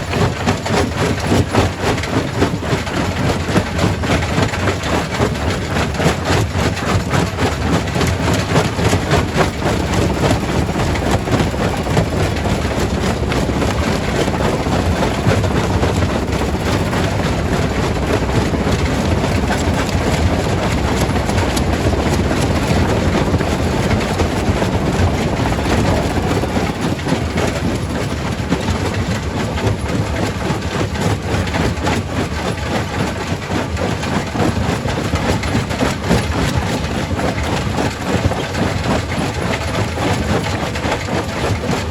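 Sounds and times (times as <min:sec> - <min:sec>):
rock crusher machine drone: 0:00.0 - 0:41.9.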